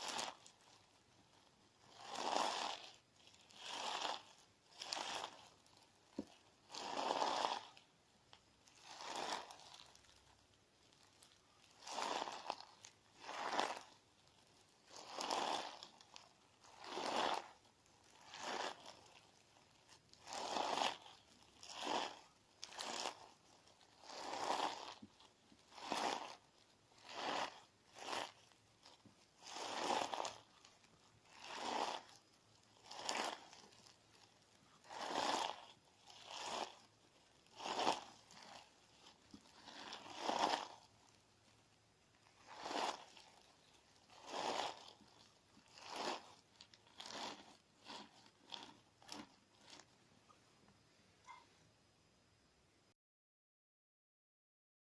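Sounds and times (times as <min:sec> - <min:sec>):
gritty slime crunching: 0:00.0 - 0:50.0.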